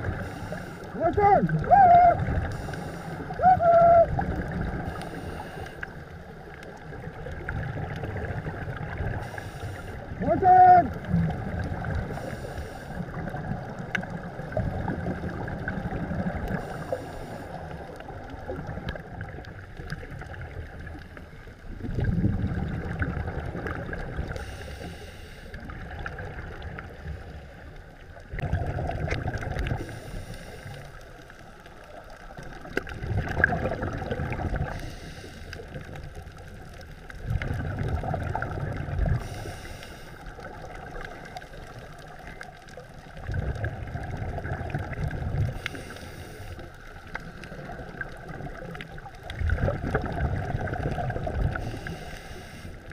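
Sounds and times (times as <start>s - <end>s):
muffled underwater rumble: 0.0s - 52.9s
underwater exhaled bubbles: 0.0s - 52.9s.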